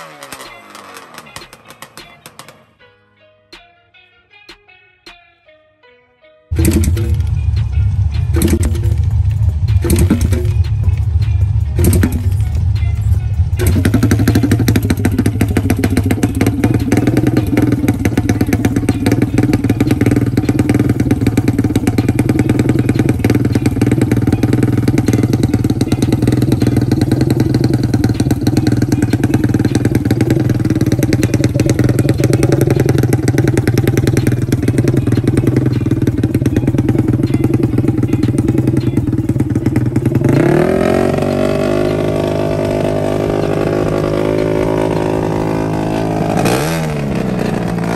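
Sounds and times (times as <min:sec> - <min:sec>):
engine note climbing in pitch: 0:06.5 - 0:47.9
quad engine idling loud: 0:06.5 - 0:47.9.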